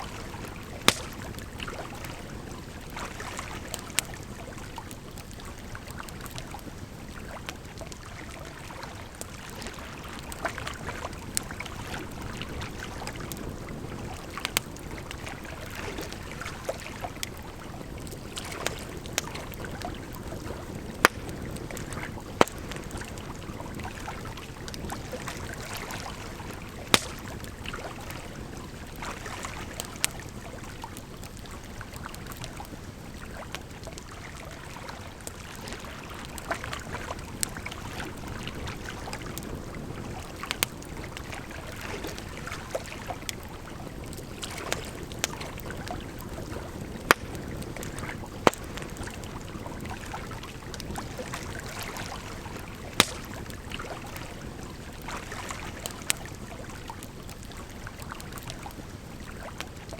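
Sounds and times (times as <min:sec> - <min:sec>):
campfire crackling: 0:00.0 - 0:59.9
flowing water: 0:00.0 - 0:59.9.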